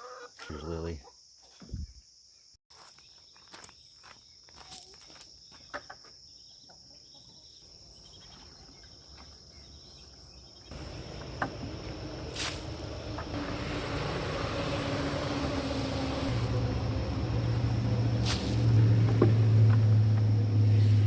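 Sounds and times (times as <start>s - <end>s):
insects droning: 0.0s - 20.7s.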